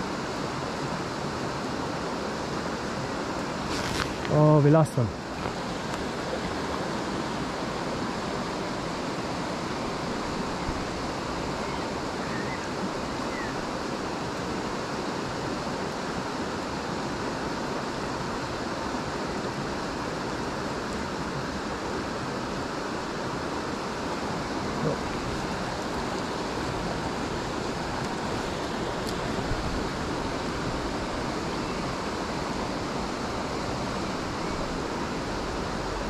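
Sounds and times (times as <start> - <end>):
river rushing over stones: 0.0 - 36.0.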